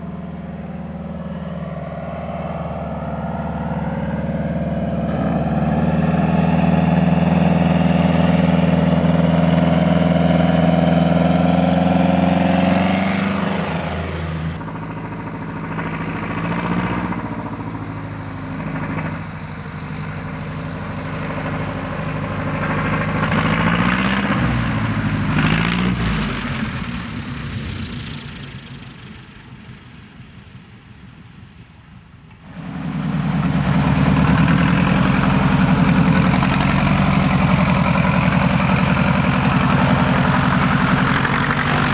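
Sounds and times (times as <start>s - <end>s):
propeller plane engine: 0.0s - 41.9s.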